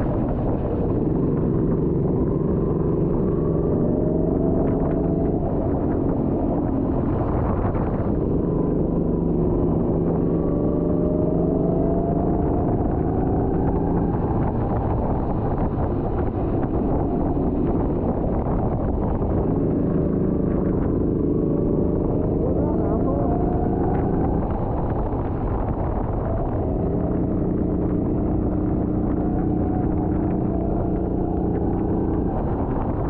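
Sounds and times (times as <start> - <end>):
go-kart engine running hard: 0.0 - 33.0
steady rushing noise: 0.0 - 33.0.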